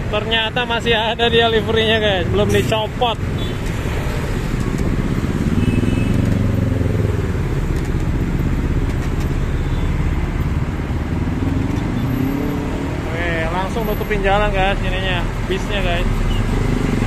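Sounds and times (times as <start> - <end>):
many small engines revving: 0.4 - 17.0.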